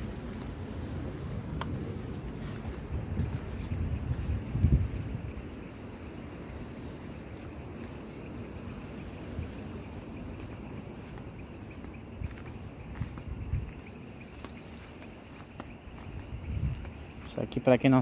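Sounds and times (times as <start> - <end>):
low wind rumble: 0.0 - 17.8
night insects trilling: 0.0 - 18.0.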